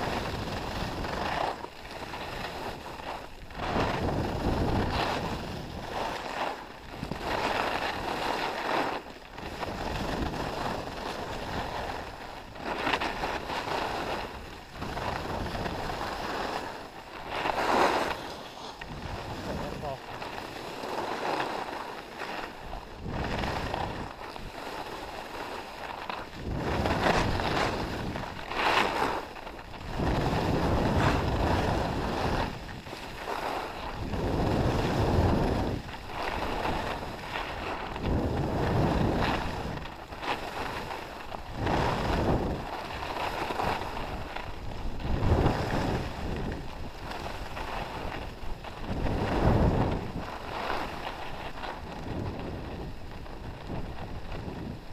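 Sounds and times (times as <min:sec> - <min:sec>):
skis scraping over snow: 0:00.0 - 0:54.9
wind rushing over microphone: 0:00.0 - 0:54.9.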